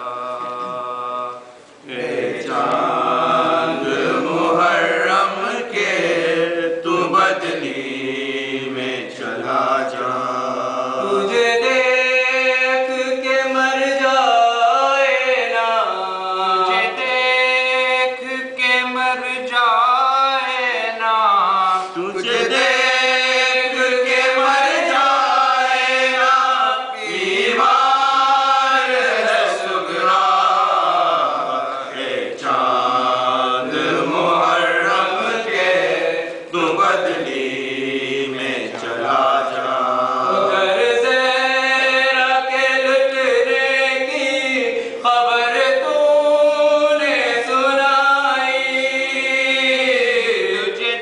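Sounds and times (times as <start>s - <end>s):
men chanting a lament: 0.0s - 51.0s.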